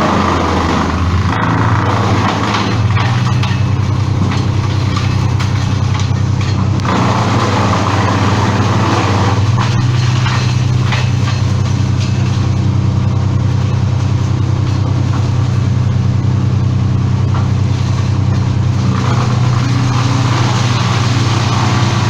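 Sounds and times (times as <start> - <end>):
engine running steadily: 0.0 - 22.0
rough mechanical noise: 0.0 - 22.0.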